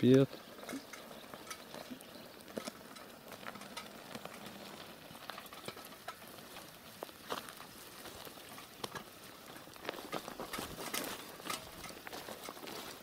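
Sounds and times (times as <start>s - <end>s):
bicycle tyres on gravel: 0.0s - 13.0s
bike clicks and rattles: 0.0s - 13.0s.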